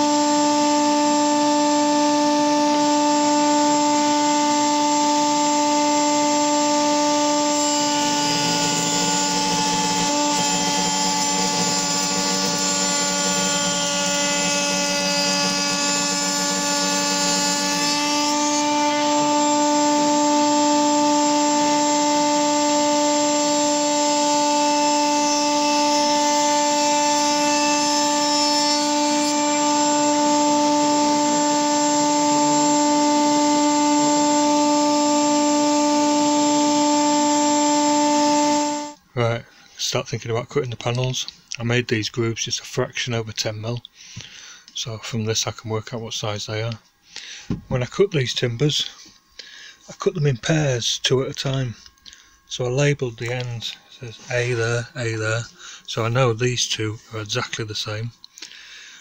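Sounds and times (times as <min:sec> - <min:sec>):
router whining: 0:00.0 - 0:39.9, 0:46.6 - 0:59.0.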